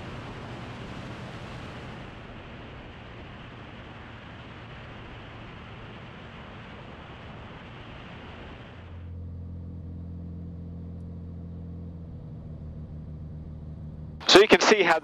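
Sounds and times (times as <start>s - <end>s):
piston engine humming at low power: 0.0s - 14.3s
light aircraft engine: 0.0s - 15.0s.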